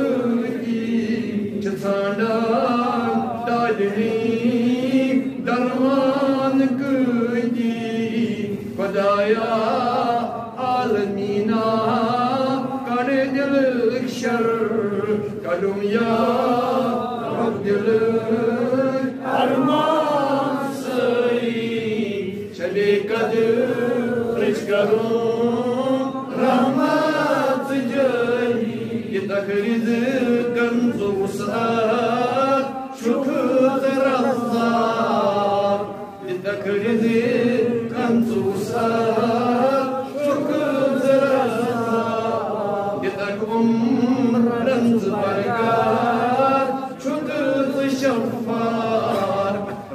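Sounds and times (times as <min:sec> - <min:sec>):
man chanting into microphone: 0:00.0 - 0:49.9.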